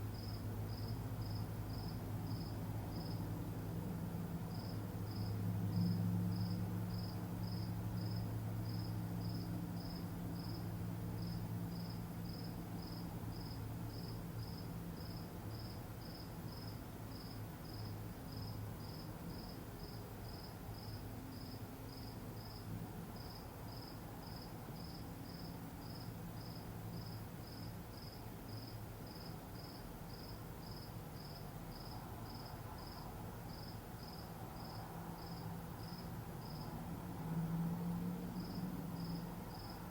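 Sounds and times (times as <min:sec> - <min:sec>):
insect chirping: 0:00.1 - 0:03.3, 0:04.5 - 0:36.7, 0:38.4 - 0:39.9.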